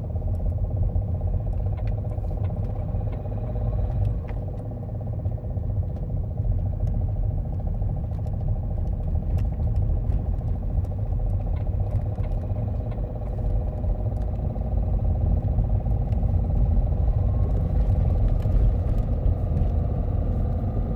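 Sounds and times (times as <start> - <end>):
diesel engine knocking clatter: 0.0 - 20.9.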